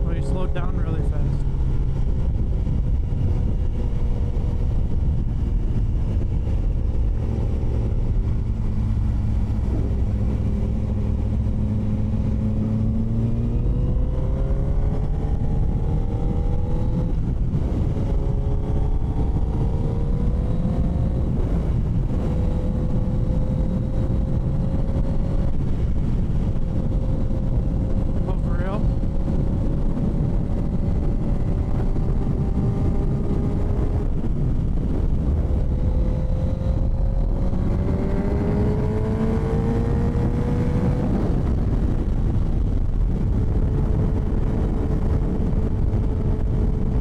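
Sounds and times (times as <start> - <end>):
motorcycle engine accelerating: 0.0 - 47.0
wind noise on microphone: 0.0 - 47.0.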